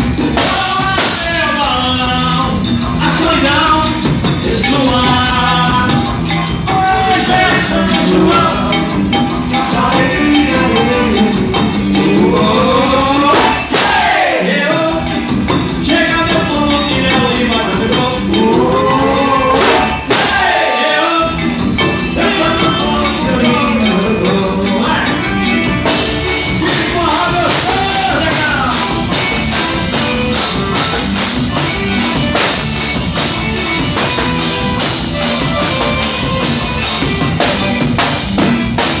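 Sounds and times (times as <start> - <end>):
live band dance music: 0.0 - 39.0.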